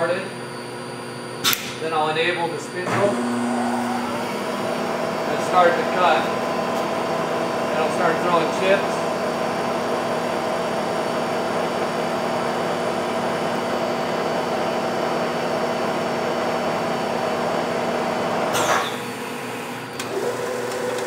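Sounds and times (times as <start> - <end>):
milling machine whirring: 0.0 - 21.0.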